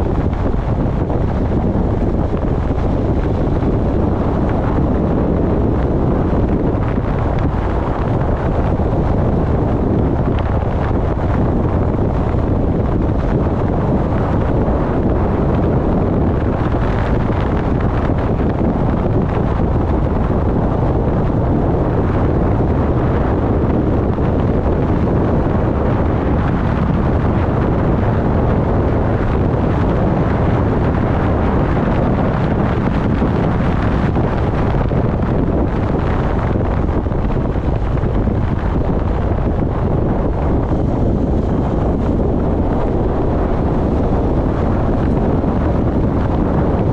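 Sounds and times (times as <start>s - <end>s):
wind buffeting the microphone: 0.0s - 46.9s.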